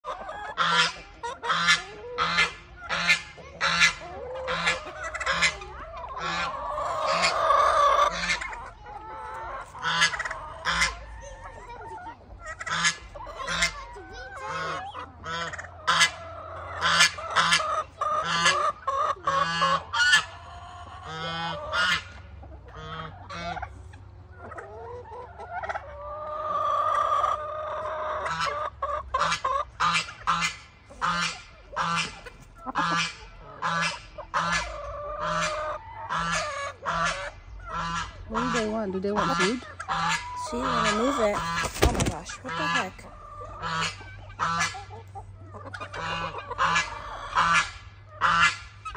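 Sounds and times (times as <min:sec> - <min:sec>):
goose honking: 0:00.1 - 0:11.1, 0:12.5 - 0:13.8, 0:14.4 - 0:23.7, 0:28.2 - 0:48.9.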